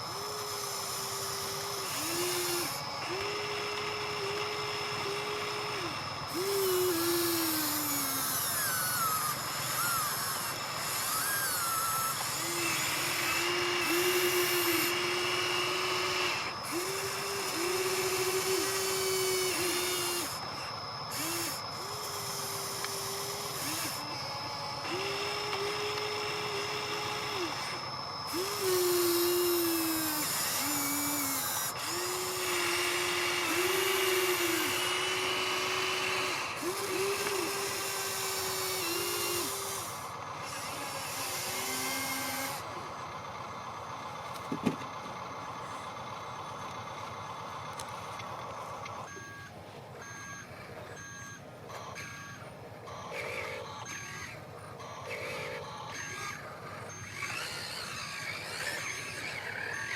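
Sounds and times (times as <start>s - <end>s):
small electric motors whining: 0.0s - 59.9s
steady high-pitched whine: 0.0s - 59.9s.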